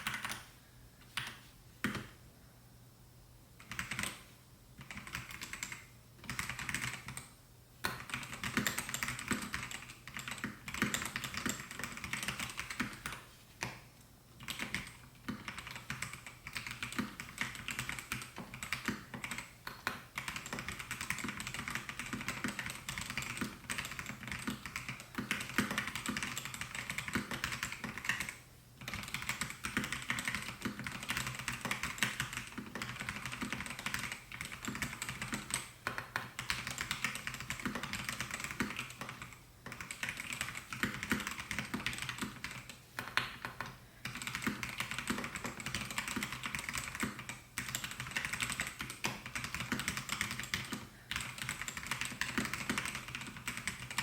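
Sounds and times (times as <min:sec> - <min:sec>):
fast typing on mechanical keyboard: 0:00.0 - 0:00.4, 0:03.6 - 0:04.2, 0:04.8 - 0:13.2, 0:14.4 - 0:54.0.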